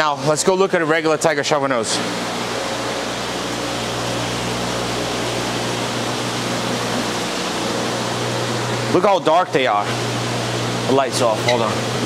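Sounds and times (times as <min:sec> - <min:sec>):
aquarium pumps rushing: 0:00.0 - 0:12.0.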